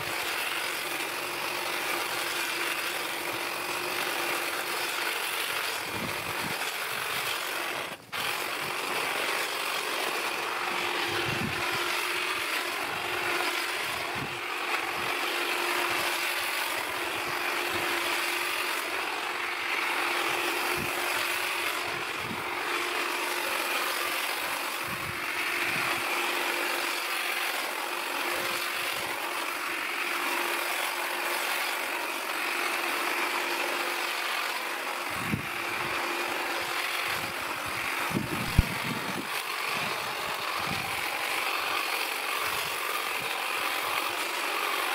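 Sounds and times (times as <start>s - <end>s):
hedge trimmer buzzing: 0.0s - 44.9s.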